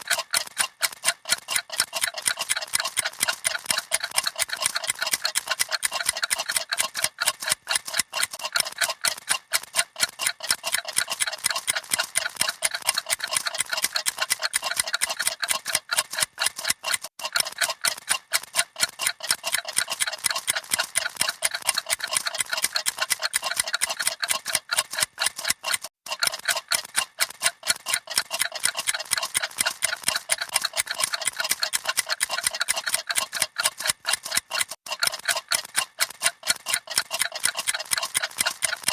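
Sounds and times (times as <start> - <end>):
clocks ticking: 0.0 - 38.9.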